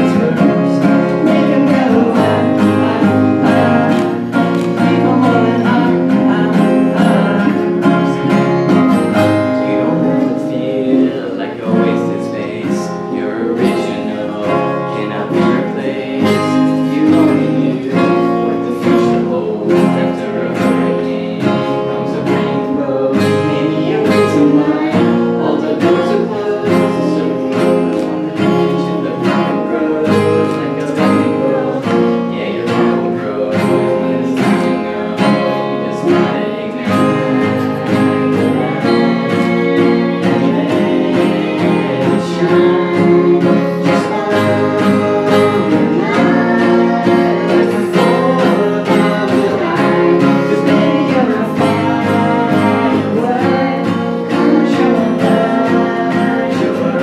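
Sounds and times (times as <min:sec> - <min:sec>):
acoustic guitars strummed: 0:00.0 - 0:57.0
girl singing: 0:00.0 - 0:57.0.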